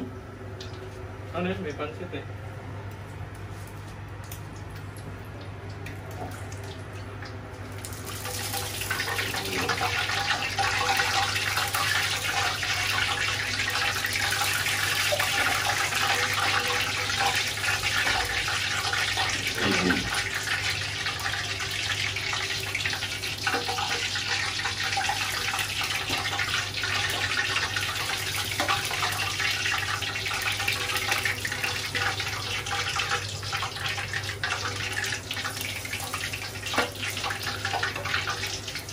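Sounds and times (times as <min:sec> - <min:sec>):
pork sizzling in hot oil: 0:06.4 - 0:38.9.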